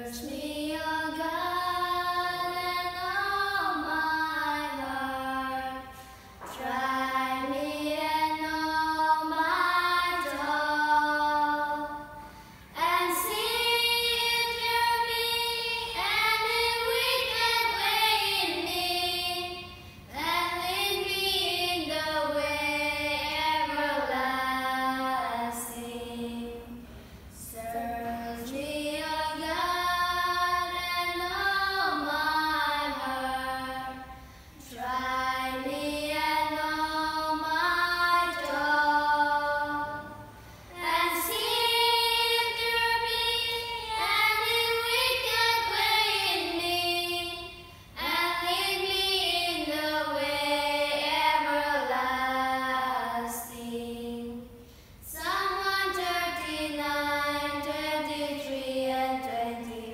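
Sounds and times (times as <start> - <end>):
children singing unaccompanied: 0.0 - 26.8, 27.4 - 59.9.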